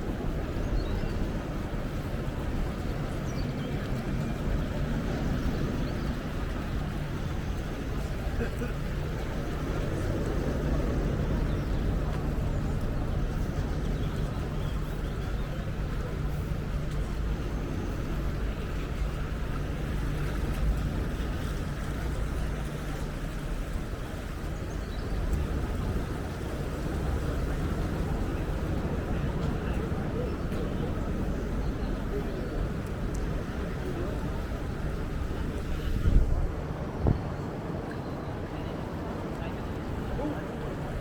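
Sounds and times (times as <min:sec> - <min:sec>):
low engine rumble: 0:00.0 - 0:41.0.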